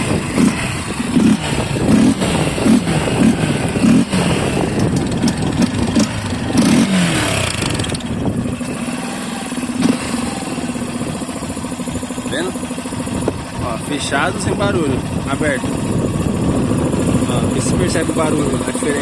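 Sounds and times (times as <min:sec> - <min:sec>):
motorcycle engine idling: 0:00.0 - 0:19.0
motorcycle engine revving: 0:00.0 - 0:19.0.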